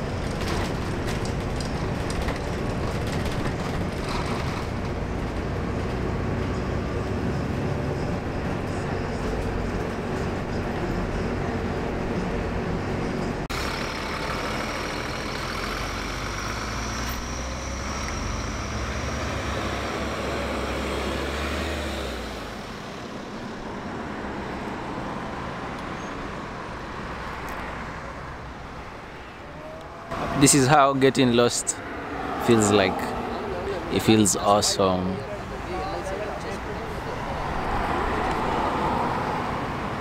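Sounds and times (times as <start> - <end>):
moving bus interior: 0.0 - 30.7, 31.4 - 40.0
bus engine rumble: 0.0 - 40.0
road traffic noise: 0.0 - 40.0.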